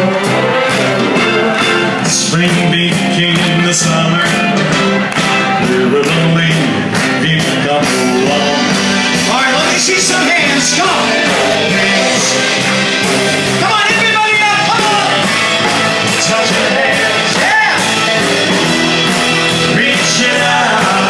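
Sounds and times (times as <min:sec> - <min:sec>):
person singing: 0:00.0 - 0:04.7, 0:05.4 - 0:21.0
live band playing up-tempo music: 0:00.0 - 0:21.0.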